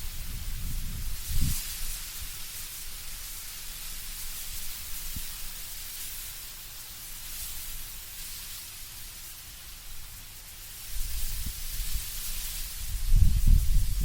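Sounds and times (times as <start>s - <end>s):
leaves rustling in wind: 0.0s - 14.0s.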